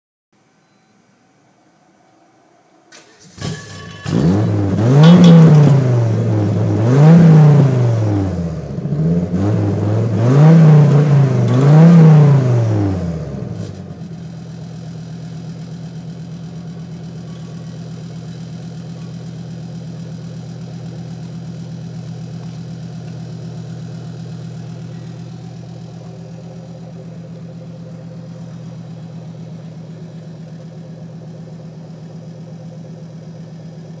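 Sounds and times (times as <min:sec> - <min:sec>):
car engine revving and idling: 0:02.9 - 0:34.0.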